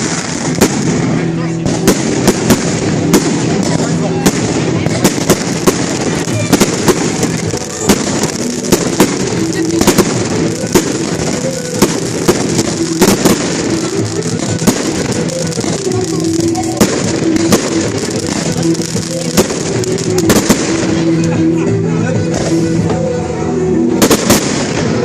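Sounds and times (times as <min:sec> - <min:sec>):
fireworks bangs: 0:00.0 - 0:21.6, 0:23.9 - 0:25.0
music with held notes: 0:00.0 - 0:25.0.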